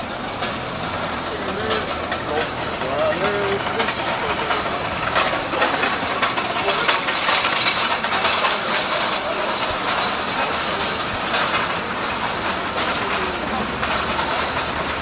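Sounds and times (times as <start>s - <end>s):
busy street clattering din: 0.0s - 15.0s.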